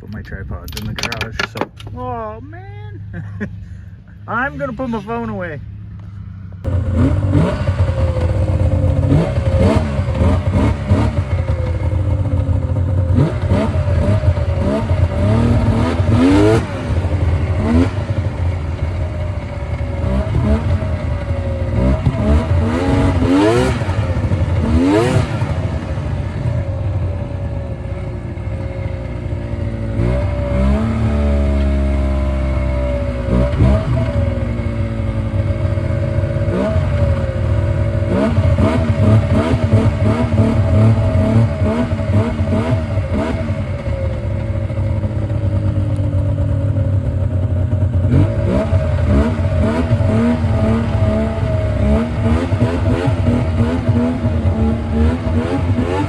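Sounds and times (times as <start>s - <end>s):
snowmobile engine revving: 2.0s - 56.0s.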